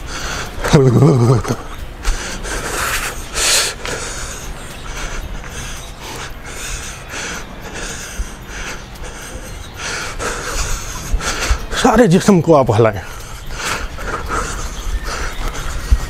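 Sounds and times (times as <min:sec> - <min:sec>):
man breathing in noisy puffs: 0:00.0 - 0:00.8, 0:01.4 - 0:12.1, 0:13.0 - 0:16.0.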